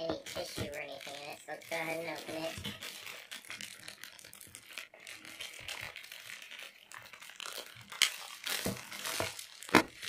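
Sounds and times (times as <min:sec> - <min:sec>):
package tearing and crinkling: 0:00.2 - 0:10.0.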